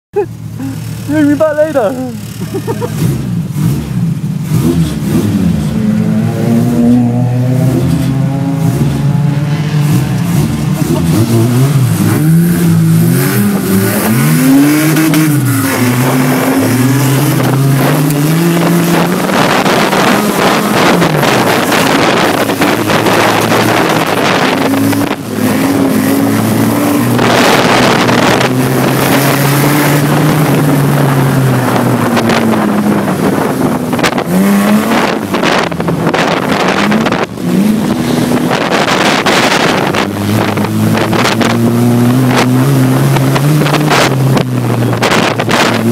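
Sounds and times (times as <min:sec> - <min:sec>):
race car engine revving: 0:00.4 - 0:45.9.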